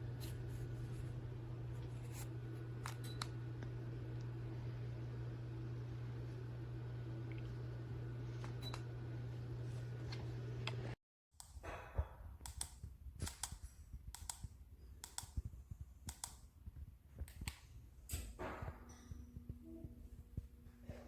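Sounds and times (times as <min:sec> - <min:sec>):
steady low hum: 0:00.0 - 0:11.0, 0:13.8 - 0:21.0.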